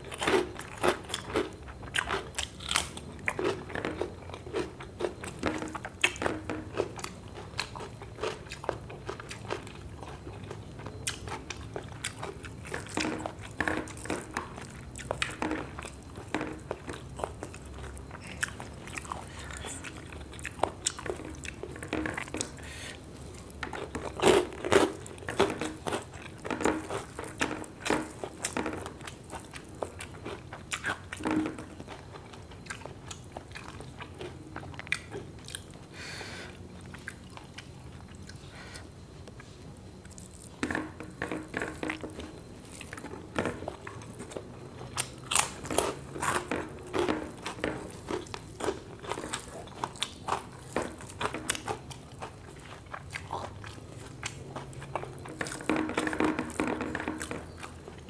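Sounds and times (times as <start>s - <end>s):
food crunching: 0.0s - 58.0s
person chewing food: 0.0s - 58.0s.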